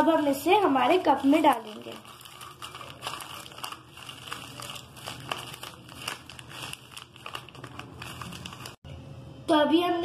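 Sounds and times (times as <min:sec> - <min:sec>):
plastic wrapper crinkling: 0:00.0 - 0:08.8
biscuits shaken into mug: 0:00.7 - 0:08.8.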